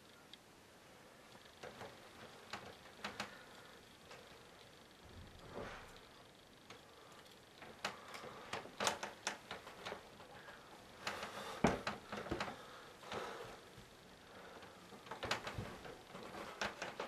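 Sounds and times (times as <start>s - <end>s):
faint rustling: 0.9s - 17.0s.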